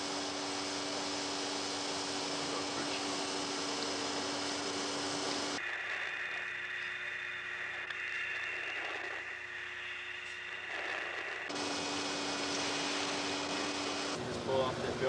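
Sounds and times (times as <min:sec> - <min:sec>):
film soundtrack hiss and hum: 0:00.0 - 0:15.0.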